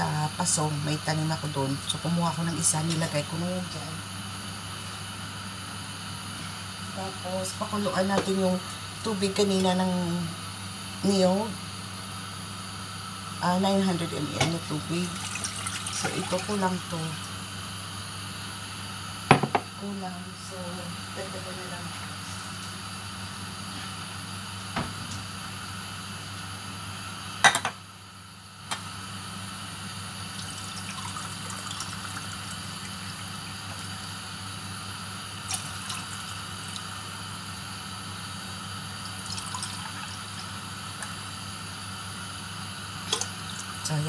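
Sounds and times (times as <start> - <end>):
kitchen hum and hiss: 0.0 - 44.0.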